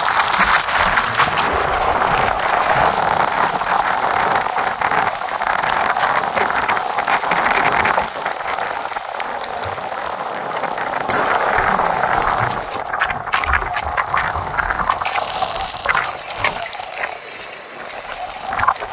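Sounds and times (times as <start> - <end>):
heavy wind-driven rain: 0.0 - 18.9.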